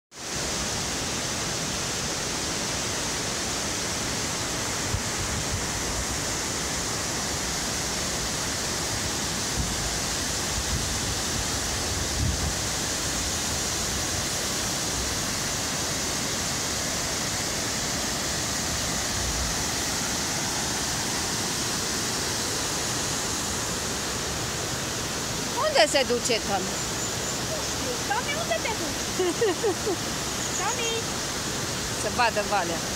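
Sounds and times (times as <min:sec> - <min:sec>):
waterfall rushing: 0:00.2 - 0:32.9.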